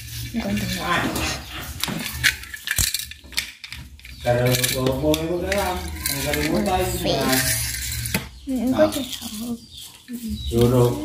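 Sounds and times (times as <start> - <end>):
toy cars clattering on tiled floor: 0.0 - 11.0.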